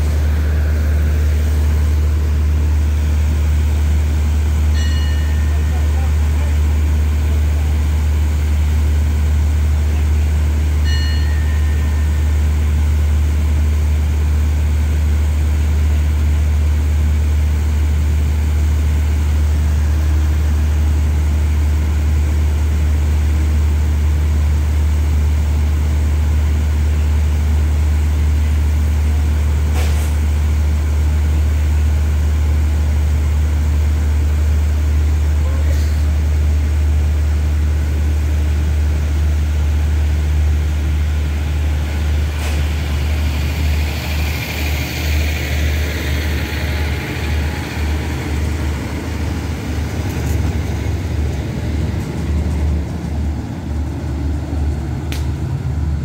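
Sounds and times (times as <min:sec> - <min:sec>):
train diesel engines idling: 0:00.0 - 0:56.0.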